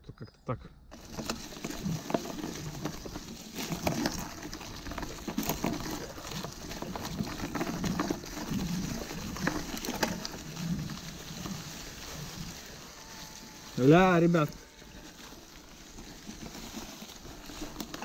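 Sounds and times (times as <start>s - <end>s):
bike clicks and rattles: 0.9s - 18.0s
tyres crunching over leaves: 0.9s - 18.0s.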